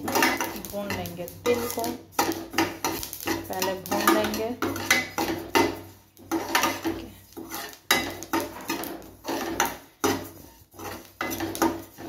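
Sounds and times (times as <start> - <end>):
spatula scraping pan: 0.0 - 12.0.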